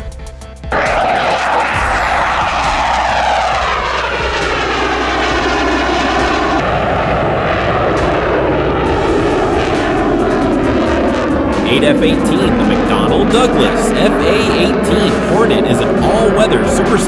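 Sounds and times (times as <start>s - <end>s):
fighter jet flying past: 0.7s - 17.0s
jet engine whine: 0.7s - 17.0s.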